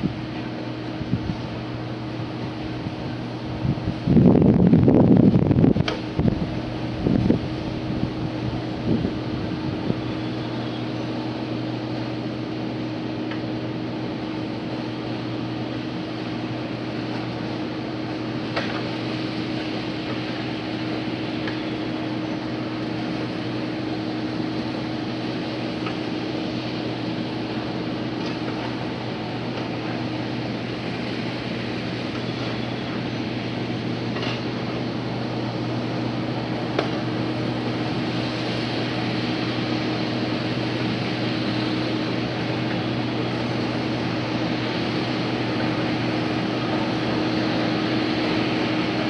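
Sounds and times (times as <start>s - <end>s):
engine droning: 0.0s - 49.0s.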